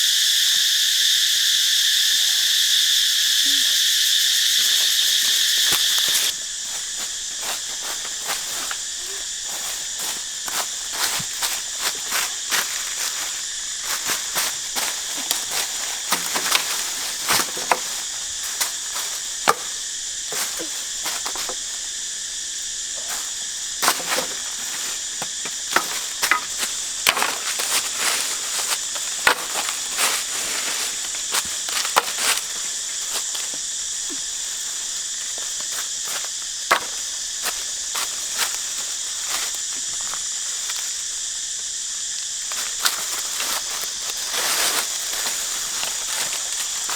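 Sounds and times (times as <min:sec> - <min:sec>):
forest insects chorus: 0:00.0 - 0:46.9.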